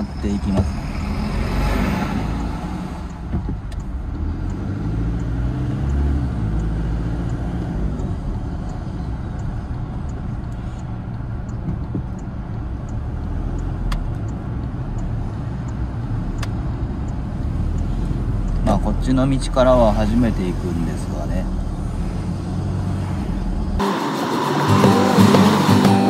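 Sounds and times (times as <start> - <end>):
turn signal ticking: 0.0 - 23.8
engine hum and road noise: 0.0 - 26.0.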